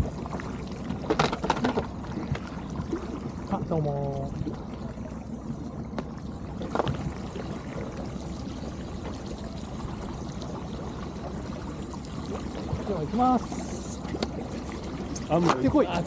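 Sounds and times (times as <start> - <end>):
boat motor running: 0.0 - 16.0
water rushing along hull: 0.0 - 16.0.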